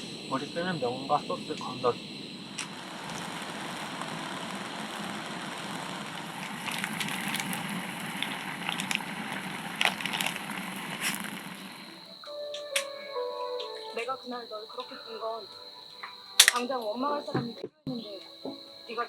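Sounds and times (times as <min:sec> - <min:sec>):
water heating with hissing rush: 0:00.0 - 0:19.0.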